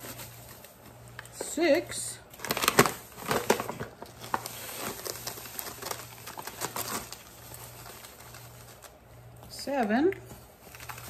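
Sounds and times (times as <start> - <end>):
paper bag crinkling: 0.0 - 9.0, 10.3 - 11.0.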